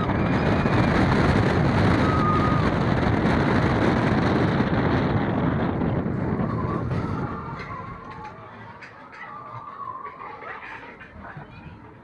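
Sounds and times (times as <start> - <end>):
roller coaster wheels rumbling: 0.0 - 12.0
wind over microphone: 0.0 - 12.0.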